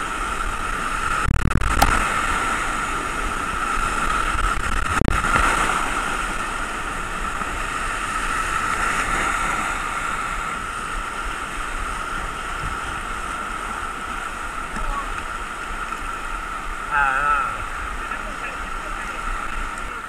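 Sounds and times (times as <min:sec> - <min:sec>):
whitewater rushing: 0:00.0 - 0:20.0.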